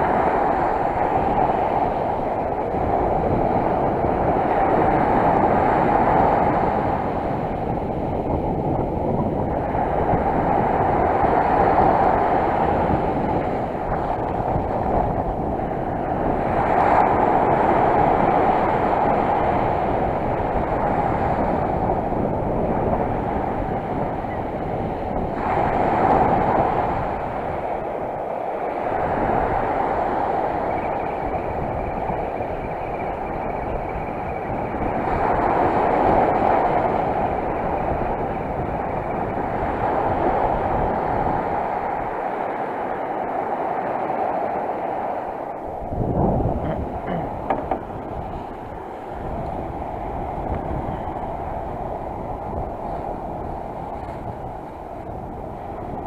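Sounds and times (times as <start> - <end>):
sea surf washing on shore: 0.0 - 56.0
wind noise: 0.0 - 56.0.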